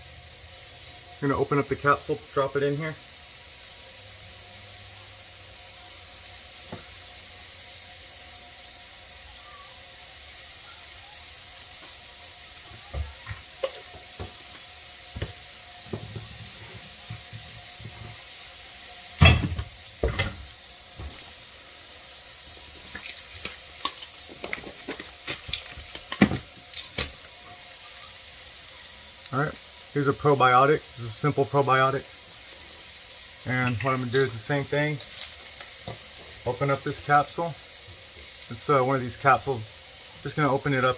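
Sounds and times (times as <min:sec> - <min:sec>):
vegetables sizzling in a skillet: 0:00.0 - 0:40.9.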